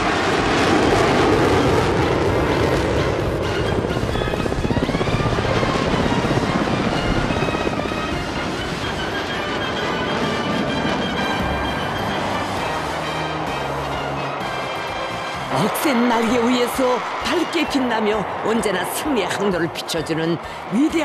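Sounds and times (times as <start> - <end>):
background music: 0.0 - 21.0
helicopter rotor beating: 0.0 - 21.0
jet engine noise: 0.0 - 21.0.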